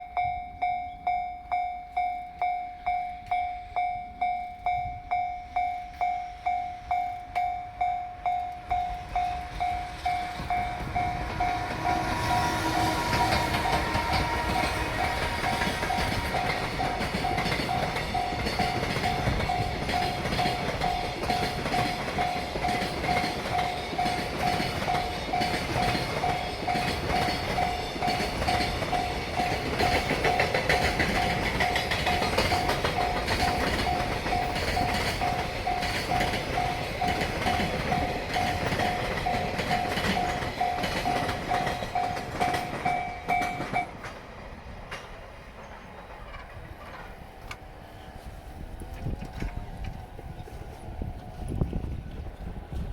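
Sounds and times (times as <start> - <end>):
level crossing warning bell: 0.0 - 44.2
train wheels clacking over rail joints: 5.1 - 47.7.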